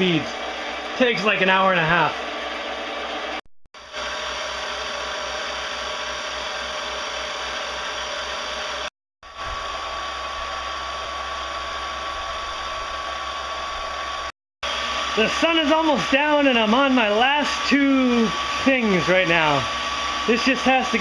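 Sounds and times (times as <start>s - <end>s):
milling machine spindle whir: 0.0s - 21.0s
steady high whine: 0.0s - 21.0s.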